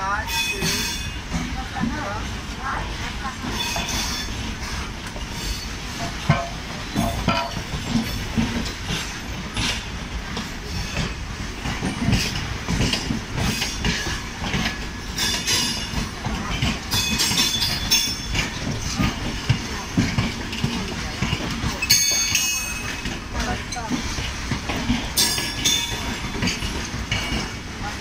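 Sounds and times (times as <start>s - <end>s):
train wheels clattering over rail joints: 0.0s - 28.0s.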